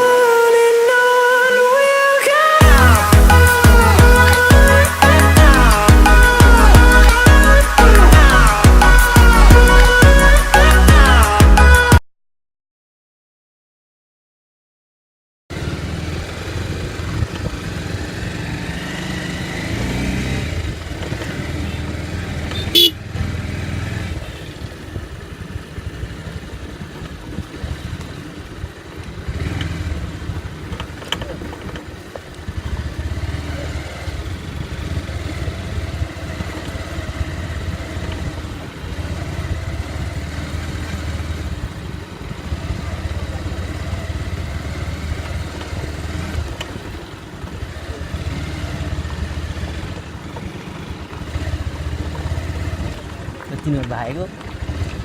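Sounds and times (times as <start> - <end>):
motorcycle engine running: 2.6 - 12.0, 15.5 - 55.0.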